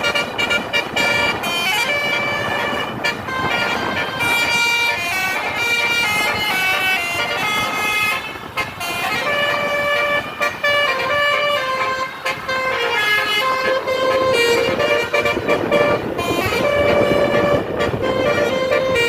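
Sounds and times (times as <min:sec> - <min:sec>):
multi-tone bus horn playing tune: 0:00.0 - 0:19.0.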